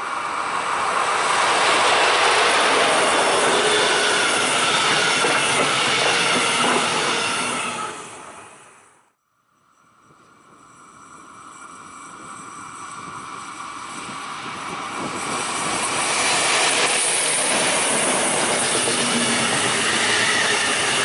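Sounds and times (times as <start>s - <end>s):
train passing close by: 0.0s - 21.0s.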